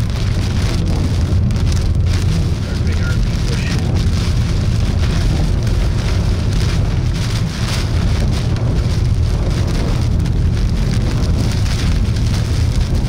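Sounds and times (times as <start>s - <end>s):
low rumble of wind: 0.0s - 13.0s
rain pelting windshield: 0.0s - 13.0s.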